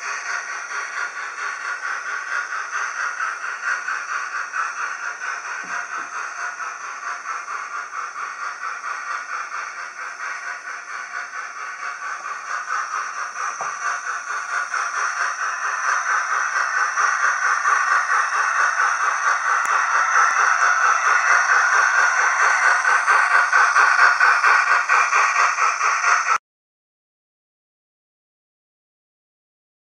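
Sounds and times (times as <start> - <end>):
model train whirring and rattling: 0.0 - 26.4.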